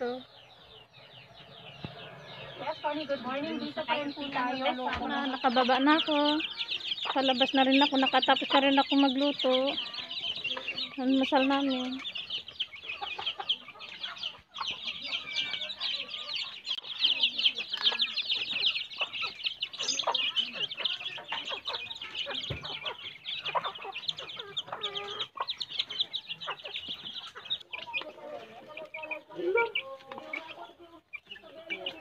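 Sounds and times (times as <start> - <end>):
chicks peeping: 0.0 - 32.0
hen clucking: 0.0 - 32.0.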